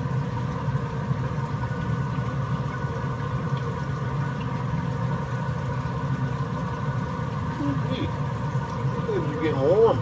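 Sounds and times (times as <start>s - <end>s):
smoker combustion fan humming: 0.0s - 10.0s.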